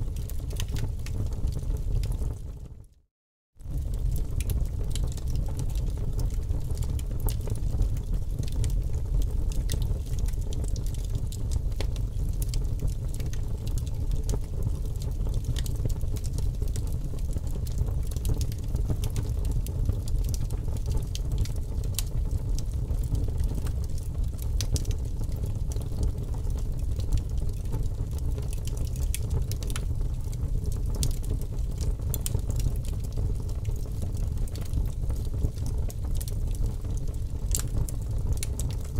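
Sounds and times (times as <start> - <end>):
fire crackling and popping: 0.0 - 2.6, 3.6 - 38.9.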